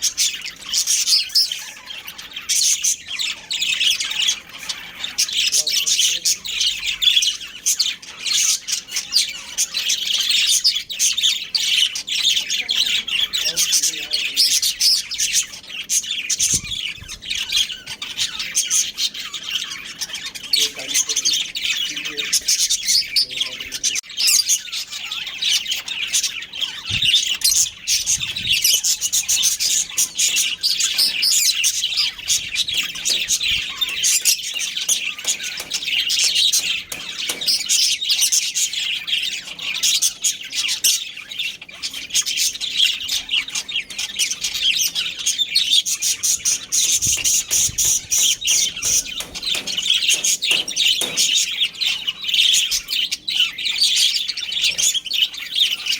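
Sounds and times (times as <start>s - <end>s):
budgerigars chirping: 0.0s - 55.9s.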